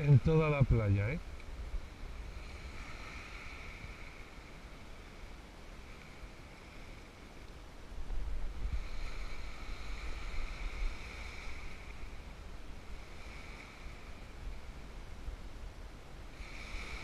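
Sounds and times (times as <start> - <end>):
small waves washing on shore: 0.0 - 17.0
wind rumbling on microphone: 0.0 - 17.0.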